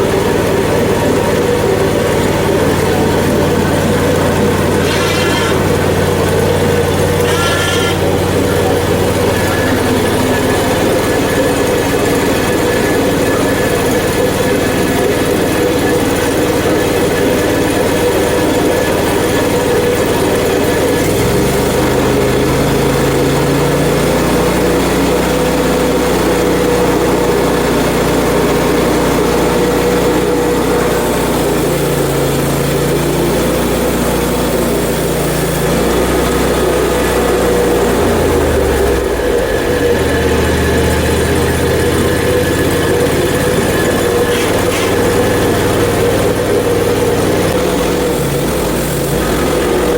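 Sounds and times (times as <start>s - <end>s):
gasoline engine running: 0.0s - 49.9s.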